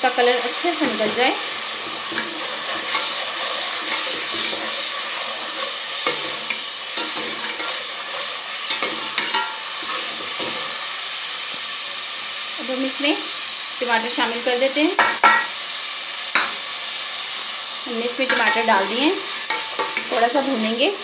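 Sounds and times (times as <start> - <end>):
food sizzling in hot ghee: 0.0 - 21.0.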